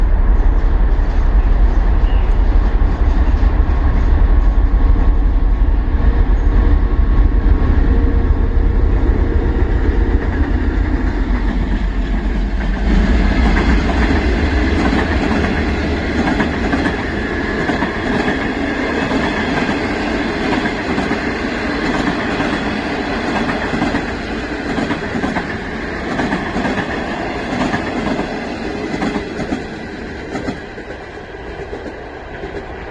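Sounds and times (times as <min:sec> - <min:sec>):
diesel locomotive engine rumble: 0:00.0 - 0:32.9.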